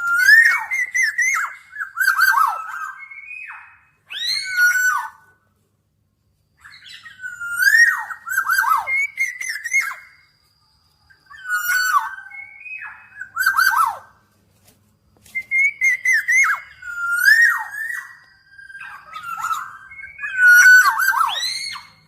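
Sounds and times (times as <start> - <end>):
bird singing fluty whistles: 0.0 - 5.4, 6.6 - 14.3, 15.2 - 22.0.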